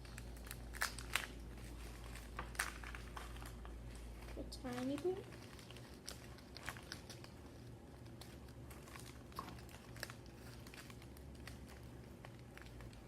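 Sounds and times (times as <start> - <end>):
light clicks and crinkles: 0.0 - 13.0
low room hum: 0.0 - 13.0.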